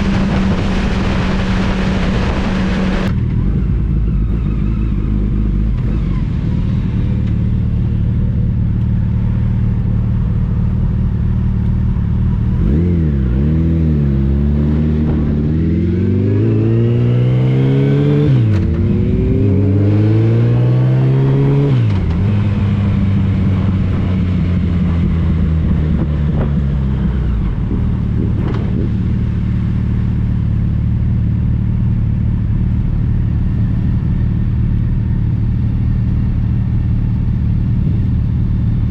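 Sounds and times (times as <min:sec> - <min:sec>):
motorcycle engine accelerating: 0:00.0 - 0:38.9
road noise: 0:00.0 - 0:38.9.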